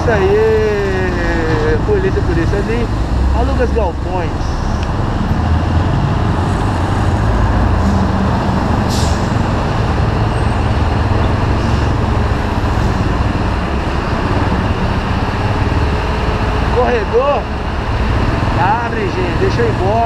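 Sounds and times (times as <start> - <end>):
bus and truck engines running: 0.0 - 20.0.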